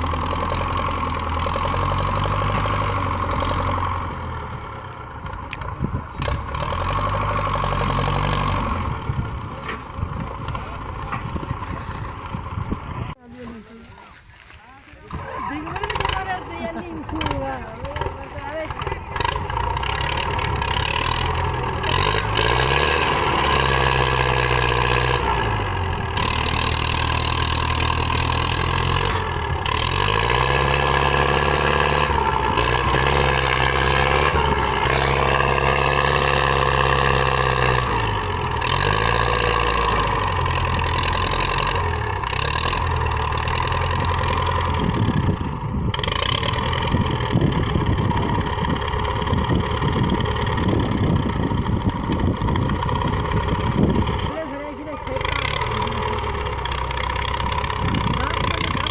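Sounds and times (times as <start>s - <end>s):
tractor diesel engine revving: 0.0s - 58.9s.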